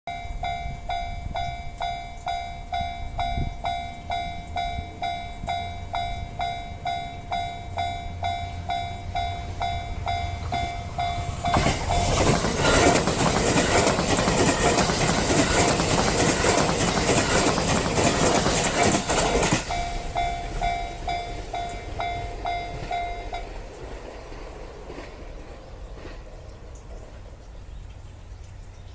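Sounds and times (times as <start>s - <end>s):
electric train passing: 0.1s - 28.6s.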